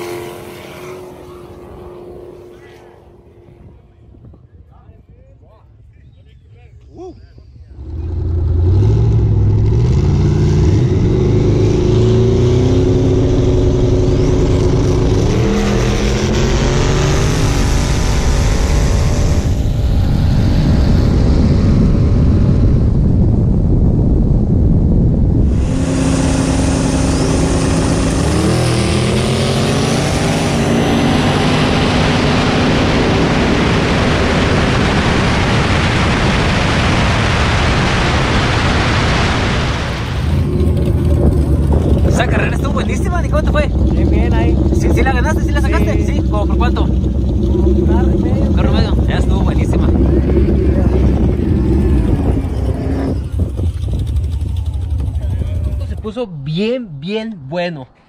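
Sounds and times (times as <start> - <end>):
drag car engine accelerating: 0.0 - 4.2, 7.8 - 56.2
wind and road noise: 0.0 - 58.0.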